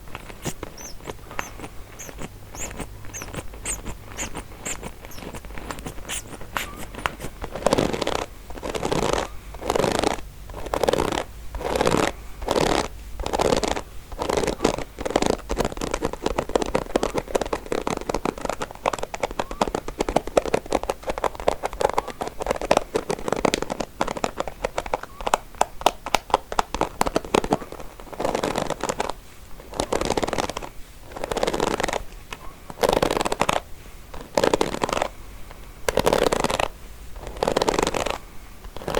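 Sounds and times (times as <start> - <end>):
comb teeth scratching: 0.0 - 32.0, 32.7 - 35.2, 35.8 - 38.9.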